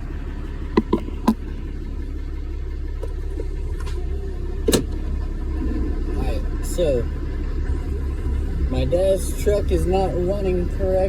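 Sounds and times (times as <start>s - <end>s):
pickup truck engine rumbling: 0.0s - 11.0s.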